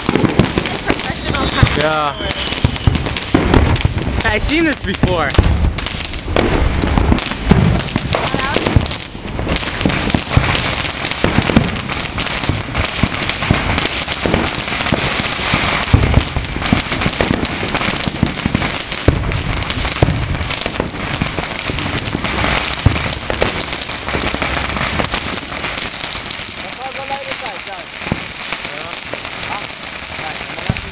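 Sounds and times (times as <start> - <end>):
low booms of shells bursting: 0.0 - 26.8, 27.7 - 30.9
fireworks popping and crackling: 0.0 - 30.9
sharp firework bang: 0.0 - 30.9.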